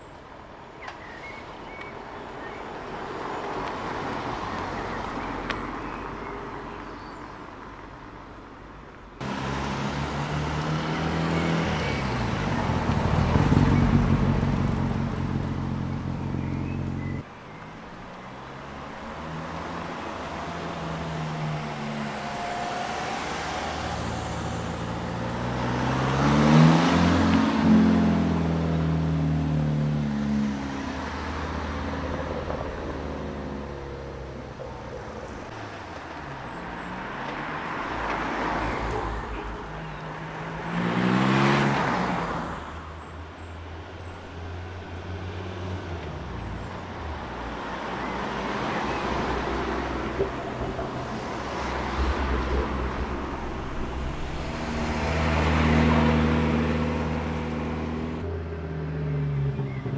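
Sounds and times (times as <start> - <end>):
car engines accelerating and revving: 9.2 - 59.9.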